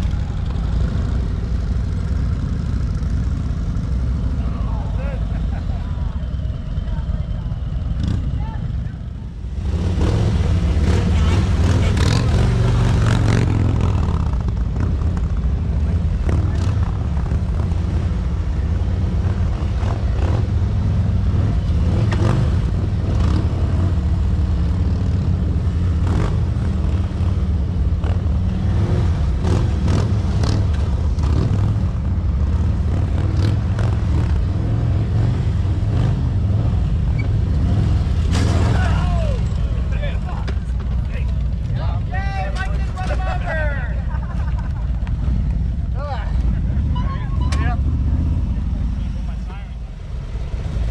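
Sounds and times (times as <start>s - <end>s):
motorcycle engines rumbling: 0.0s - 50.9s.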